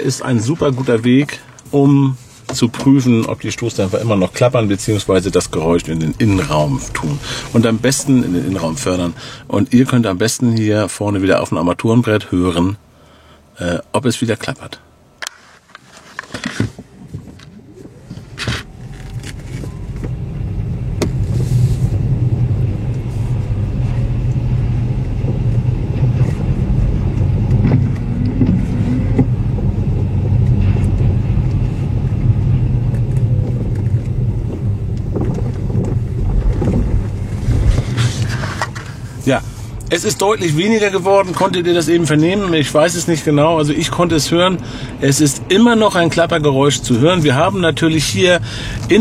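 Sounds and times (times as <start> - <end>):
road and tyre rumble: 0.0 - 11.5, 14.4 - 49.0.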